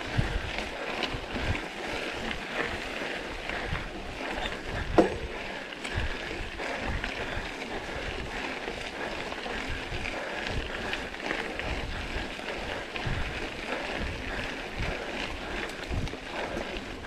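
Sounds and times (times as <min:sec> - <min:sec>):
bike clicks and rattles: 0:00.0 - 0:17.0
mountain bike tyres rolling on trail: 0:00.0 - 0:17.0.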